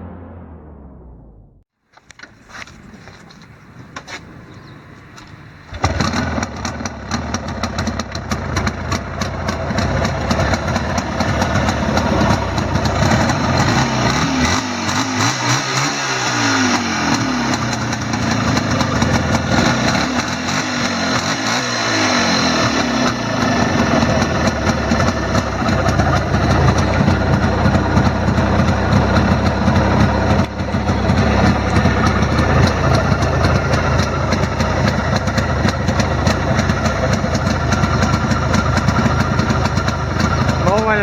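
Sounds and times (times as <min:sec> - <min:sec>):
motorcycle engine revving: 0:02.4 - 0:41.0.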